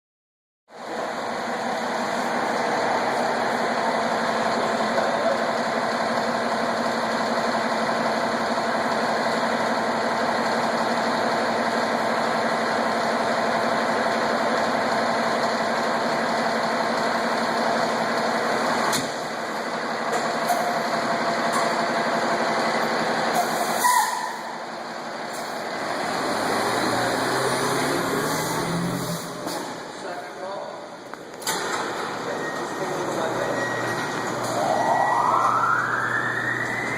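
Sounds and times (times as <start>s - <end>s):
fire engine running: 0.7s - 36.9s.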